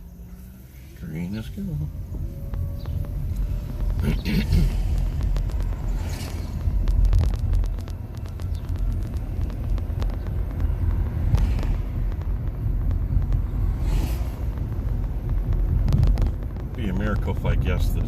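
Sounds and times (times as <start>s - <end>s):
tyre and road rumble: 0.0s - 18.0s.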